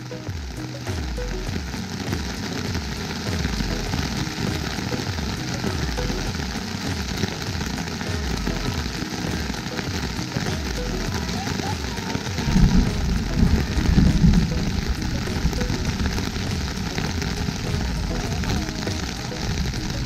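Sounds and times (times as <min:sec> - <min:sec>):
rain on a tent: 0:00.0 - 0:20.0.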